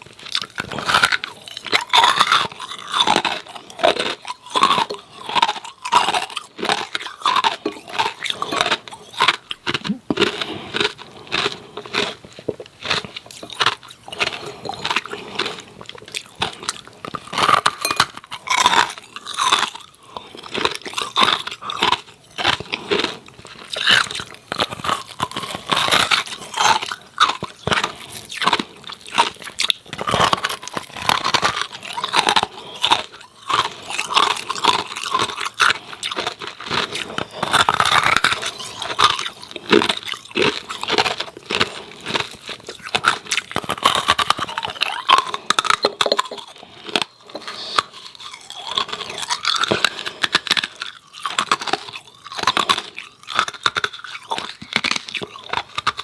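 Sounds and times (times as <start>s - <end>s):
ice cubes crunching when chewed: 0.0s - 56.0s.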